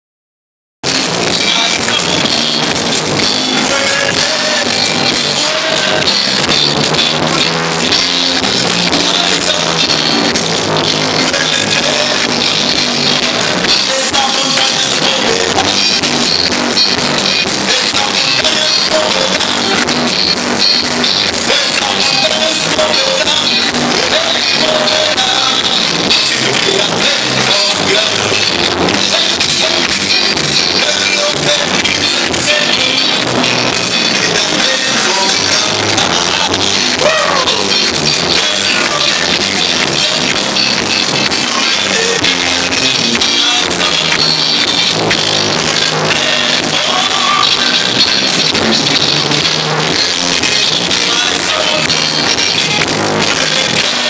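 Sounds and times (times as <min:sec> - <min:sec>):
drum kit: 0:00.8 - 0:54.0
live band playing: 0:00.8 - 0:54.0
singing: 0:01.1 - 0:02.7, 0:03.3 - 0:06.6, 0:07.8 - 0:16.0, 0:17.4 - 0:19.9, 0:21.2 - 0:48.7, 0:49.9 - 0:54.0.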